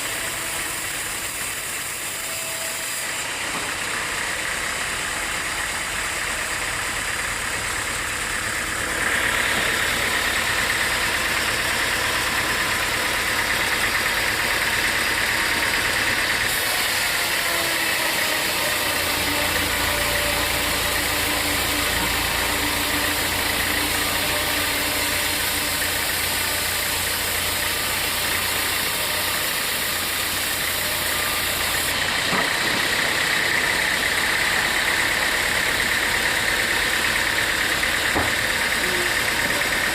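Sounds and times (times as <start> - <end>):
high machine whine: 0.0 - 39.9
sawmill machinery droning: 0.0 - 39.9.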